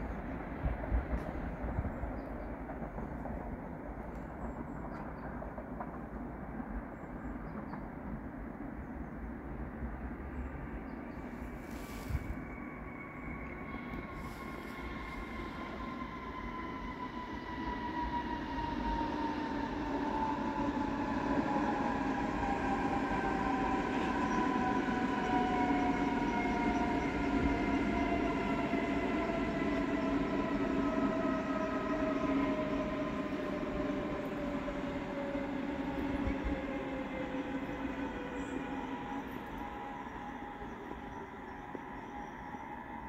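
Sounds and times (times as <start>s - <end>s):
train wheels rumbling: 0.0s - 9.0s, 11.5s - 43.0s.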